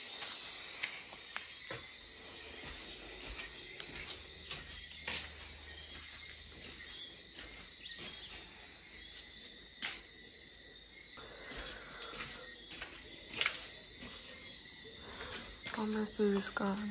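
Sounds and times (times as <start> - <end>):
bird chirps: 0.0 - 16.9
insects chorus: 0.0 - 16.9.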